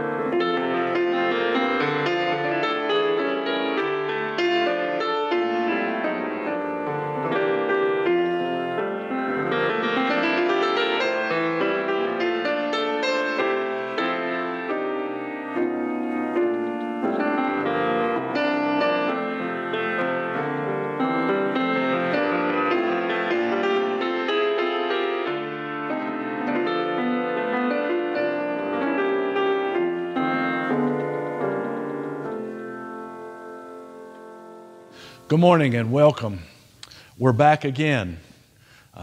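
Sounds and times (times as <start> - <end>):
solo piano music: 0.0 - 35.6.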